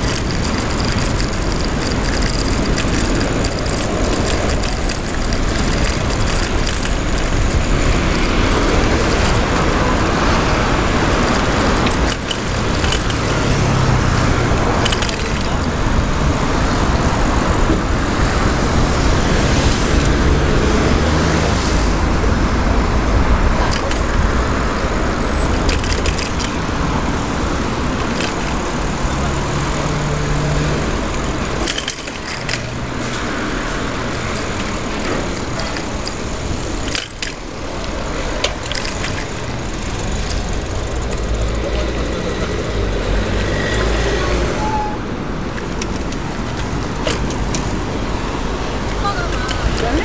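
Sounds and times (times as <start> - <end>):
bike chain lock rattling: 0.0 - 20.2, 23.6 - 44.2, 45.5 - 50.0
cars passing: 0.0 - 50.0.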